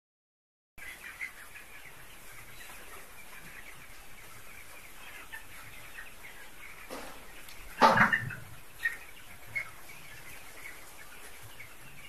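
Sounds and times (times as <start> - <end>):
chickens clucking and peeping: 0.8 - 12.0.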